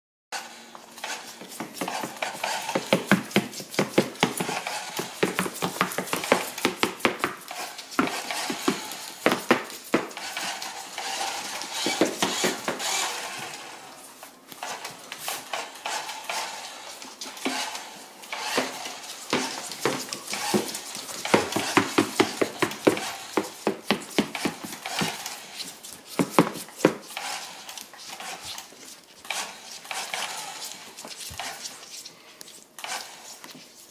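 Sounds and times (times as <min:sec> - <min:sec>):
claws clicking on wooden floor: 0:01.0 - 0:13.7, 0:14.5 - 0:33.9.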